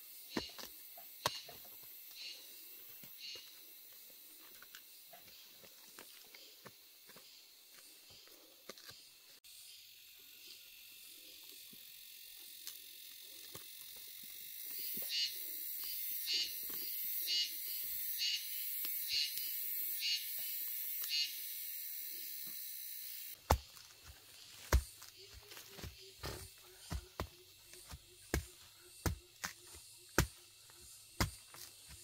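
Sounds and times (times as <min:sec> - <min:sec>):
insects buzzing: 0:00.0 - 0:32.0
pulsed insect call: 0:00.0 - 0:32.0.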